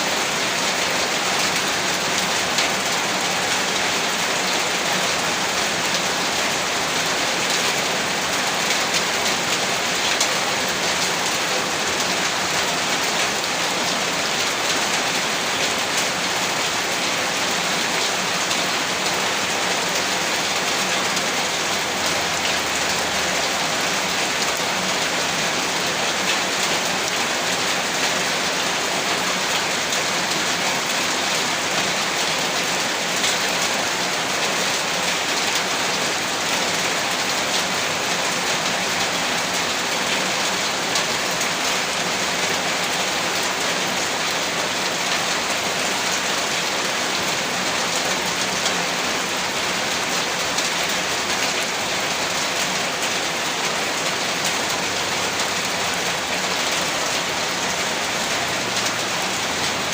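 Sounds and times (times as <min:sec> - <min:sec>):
heavy rain on a roof: 0:00.0 - 0:59.9.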